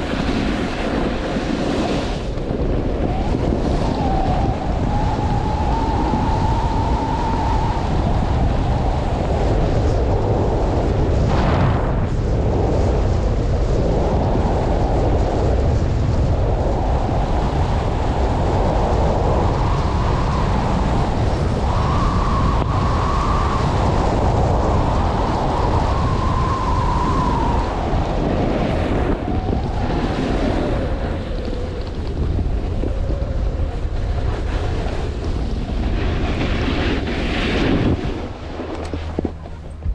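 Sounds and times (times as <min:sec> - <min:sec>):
strong wind buffeting microphone: 0:00.0 - 0:39.9.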